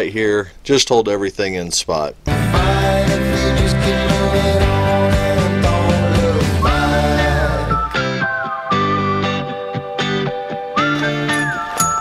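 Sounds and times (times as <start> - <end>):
background music: 2.3 - 12.0.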